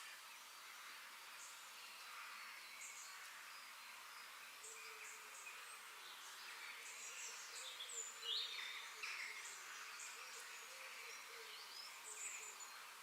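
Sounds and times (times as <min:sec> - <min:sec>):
faint insect hiss: 0:00.0 - 0:13.0.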